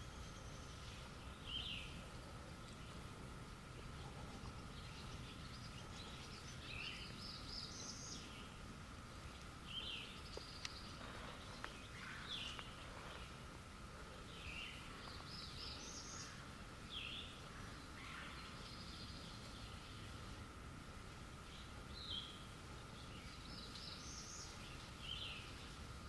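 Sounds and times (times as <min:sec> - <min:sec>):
songbird song phrase: 0:00.0 - 0:20.6, 0:21.2 - 0:26.0.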